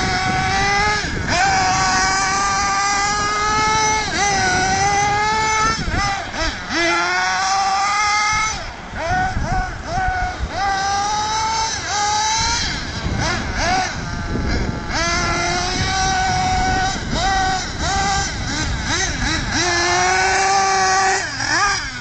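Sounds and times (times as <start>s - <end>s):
rc buggy engine revving: 0.0s - 22.0s.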